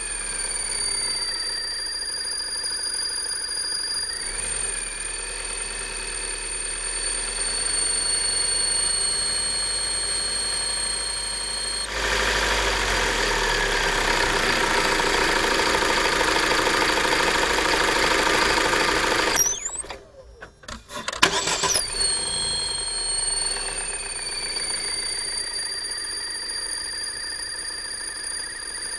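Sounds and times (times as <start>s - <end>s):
high-pitched whistle: 0.0s - 11.9s, 14.2s - 20.0s, 21.3s - 28.9s
petrol engine running: 0.0s - 28.9s.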